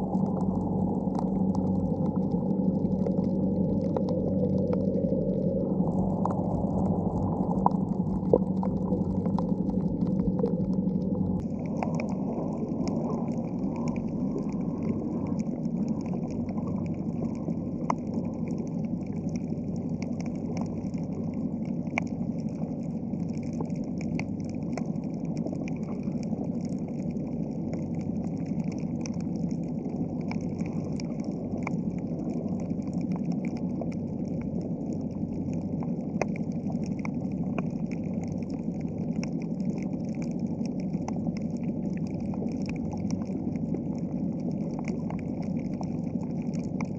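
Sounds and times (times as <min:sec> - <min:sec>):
faint clicks and crackles: 0:00.0 - 0:46.9
underwater water rush: 0:00.0 - 0:46.9.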